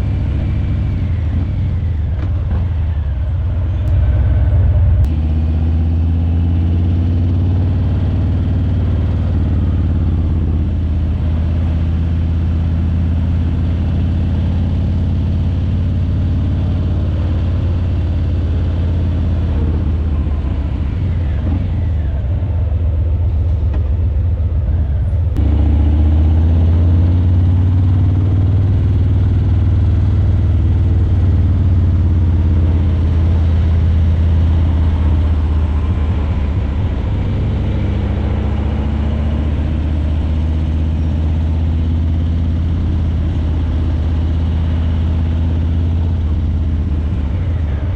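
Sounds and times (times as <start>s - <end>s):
motorcycle engine running low revs: 0.0s - 47.9s.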